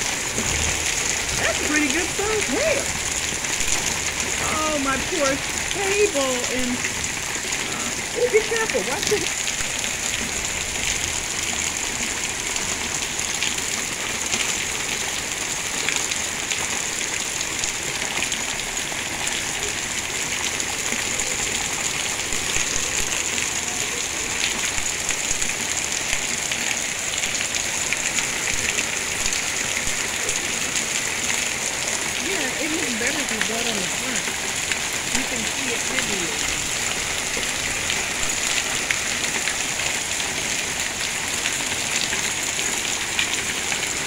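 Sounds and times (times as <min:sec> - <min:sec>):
hail falling on patio and lawn: 0:00.0 - 0:44.0.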